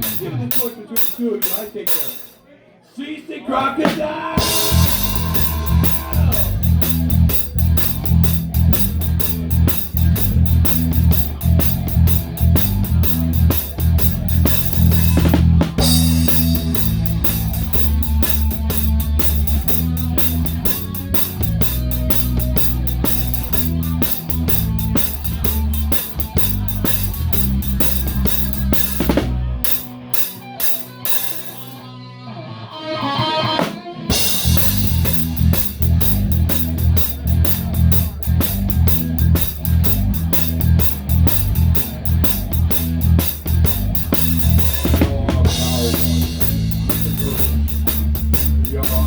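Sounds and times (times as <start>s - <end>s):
damped drum kit: 0.0s - 2.4s, 3.8s - 31.8s, 33.4s - 49.0s
live band playing: 0.0s - 2.4s, 4.4s - 49.0s
bass line: 4.4s - 31.7s, 34.1s - 49.0s.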